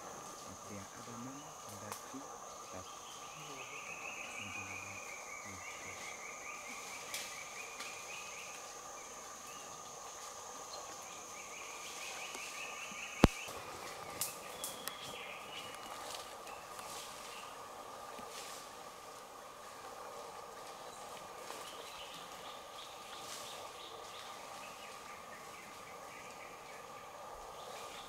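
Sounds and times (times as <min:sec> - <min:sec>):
insect pulsing trill: 0:00.0 - 0:28.0
insects high buzz: 0:00.0 - 0:28.0
insects low droning: 0:00.0 - 0:28.0.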